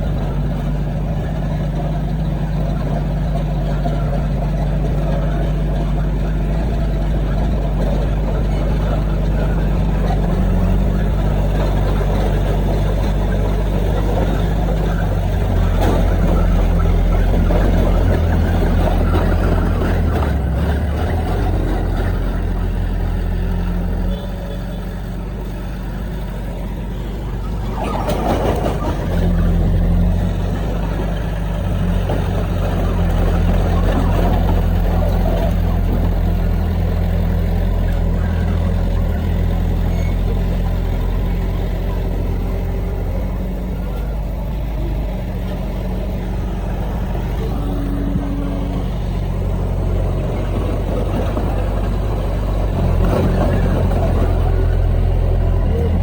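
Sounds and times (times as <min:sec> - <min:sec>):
heavy diesel machinery engine hum: 0:00.0 - 0:56.0.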